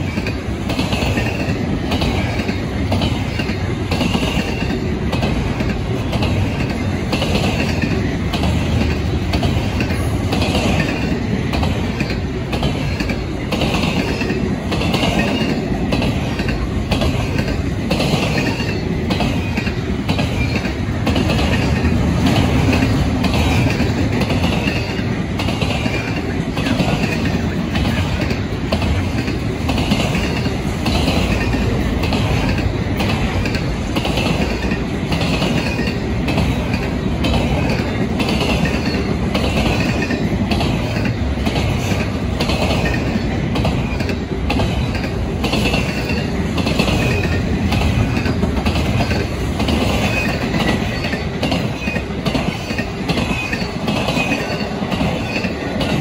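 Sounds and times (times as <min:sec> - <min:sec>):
freight train rumbling: 0:00.0 - 0:56.0
wheels clacking over rail joints: 0:00.0 - 0:56.0.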